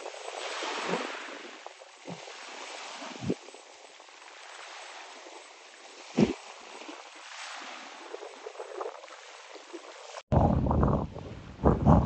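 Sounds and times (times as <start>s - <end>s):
small waves lapping: 0.0s - 10.2s.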